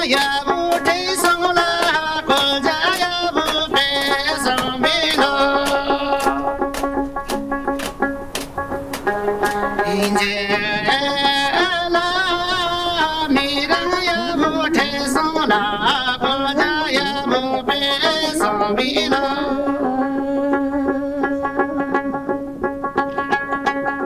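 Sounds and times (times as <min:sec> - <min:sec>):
person singing: 0:00.0 - 0:06.8, 0:09.4 - 0:22.4
instrumental chords with plucked strings: 0:00.0 - 0:24.0.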